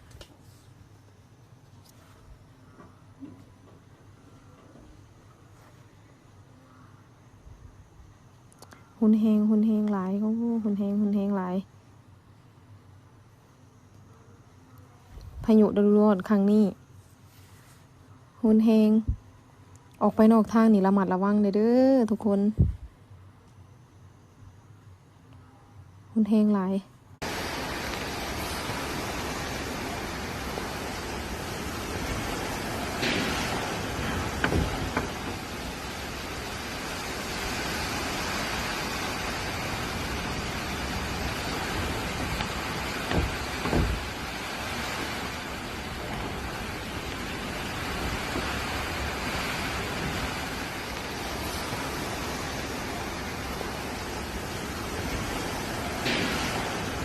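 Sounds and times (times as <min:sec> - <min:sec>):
storm wind and rain: 0:00.0 - 0:13.3, 0:18.4 - 0:23.3, 0:27.2 - 0:57.0.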